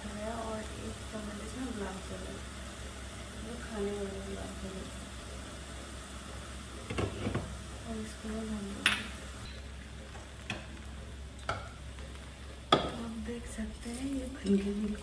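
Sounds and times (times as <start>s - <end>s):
faint sizzle: 0.0s - 15.0s.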